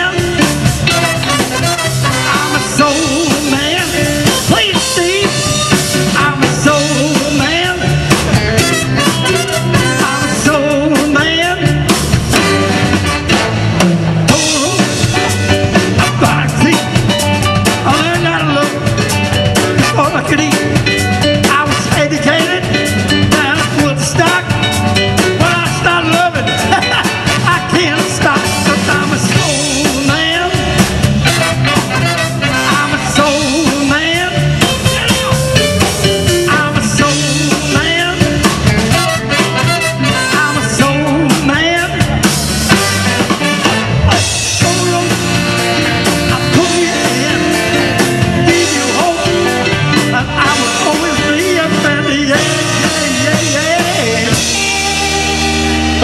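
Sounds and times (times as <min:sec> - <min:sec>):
soul and blues band playing: 0:00.0 - 0:56.0.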